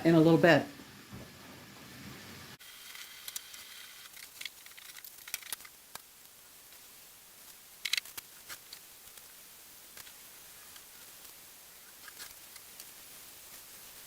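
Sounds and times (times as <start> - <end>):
cabbage crackling in a skillet: 1.8 - 14.0.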